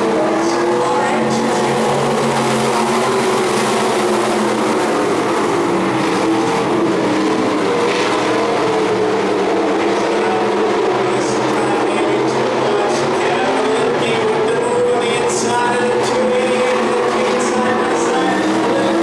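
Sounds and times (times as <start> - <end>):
racing car engines: 0.0 - 19.0.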